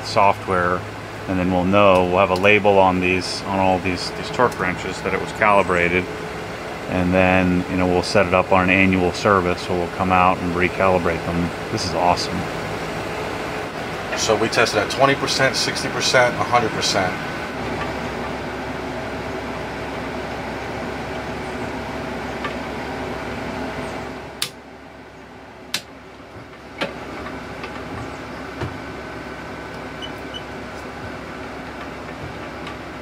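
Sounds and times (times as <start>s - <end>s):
machine hum with pitched tones: 0.0s - 33.0s.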